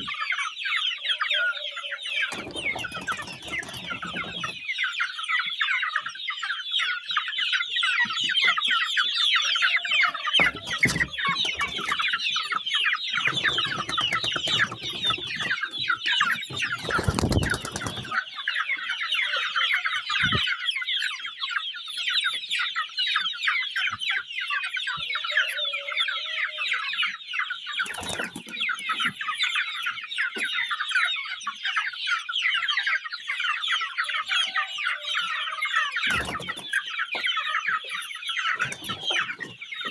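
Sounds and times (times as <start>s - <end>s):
chickens cheeping: 0.0s - 39.9s.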